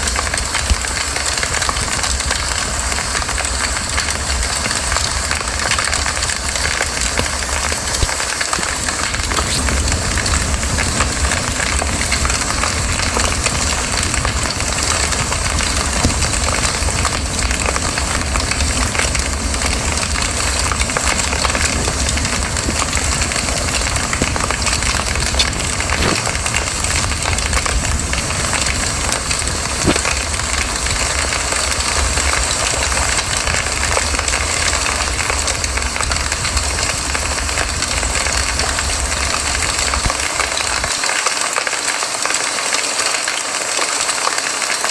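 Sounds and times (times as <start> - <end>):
fire popping: 0.0 - 41.0
burning wood crackling: 0.0 - 41.1
campfire flames rushing: 0.0 - 42.3.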